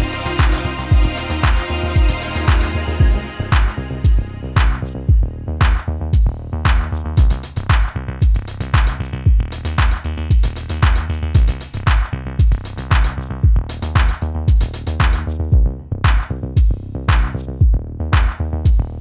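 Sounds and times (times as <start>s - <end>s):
electronic music with beat: 0.0s - 19.0s.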